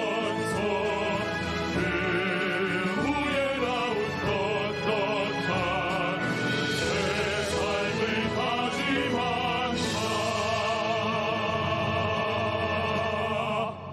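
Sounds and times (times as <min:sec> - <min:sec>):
orchestra playing: 0:00.0 - 0:13.6
male vocal quartet singing: 0:00.0 - 0:13.9.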